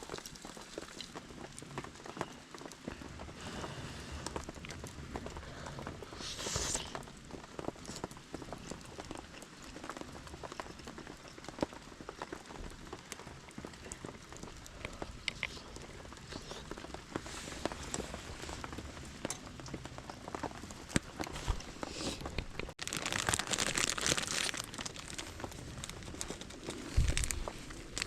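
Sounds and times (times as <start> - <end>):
sharp drips and clicks: 0.0 - 3.4, 6.9 - 28.0
steady rain falling: 0.0 - 28.0.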